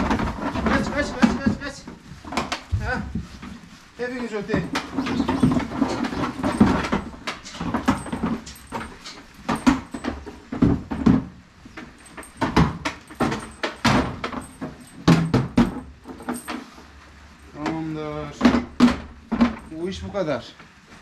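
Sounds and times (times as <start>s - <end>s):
knocks and rustles: 0.0s - 21.0s.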